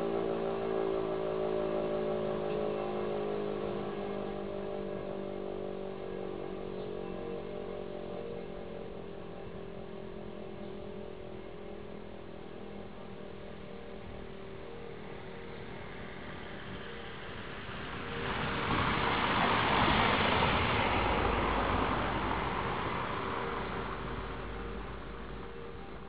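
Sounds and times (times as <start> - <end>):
road vehicle passing by: 0.0 - 26.0.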